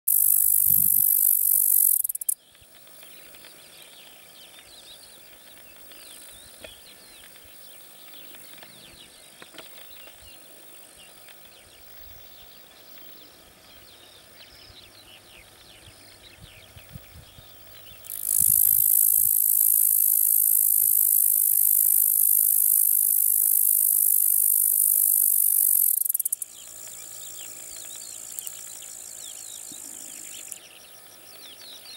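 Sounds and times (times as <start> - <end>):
bush-cricket stridulating: 0.1 - 31.9
faint chirps: 0.1 - 31.9.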